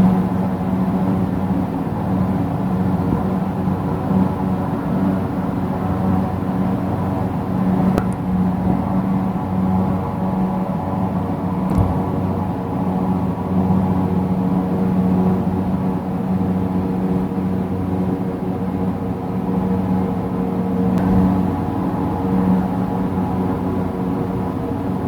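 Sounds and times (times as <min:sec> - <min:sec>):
low mechanical drone: 0:00.0 - 0:25.0.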